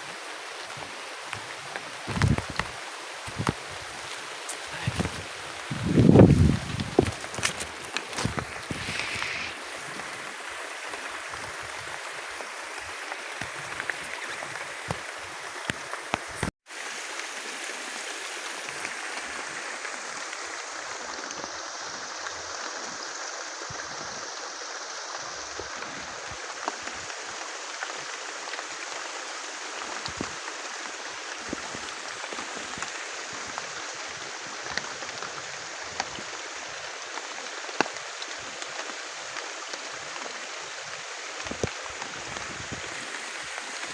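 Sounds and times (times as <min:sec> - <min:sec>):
heavy rain falling: 0:00.0 - 0:43.9
raindrops ticking on leaves: 0:00.0 - 0:43.9.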